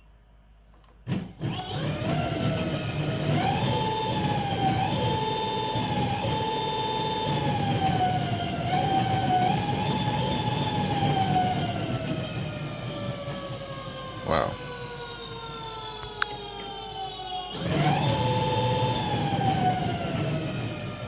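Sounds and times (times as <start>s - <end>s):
electric motor whining: 1.4s - 21.0s.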